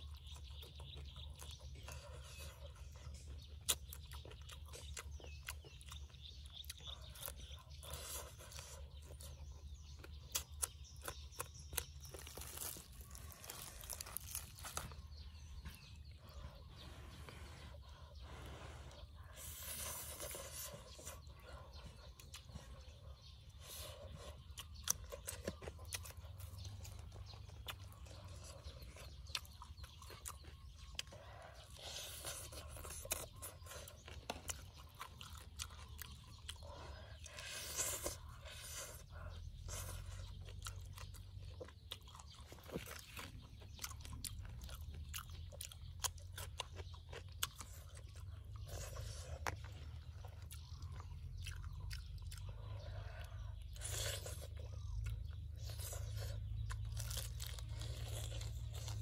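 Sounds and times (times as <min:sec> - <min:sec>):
chewing crispy fried fish: 0:00.0 - 0:59.0.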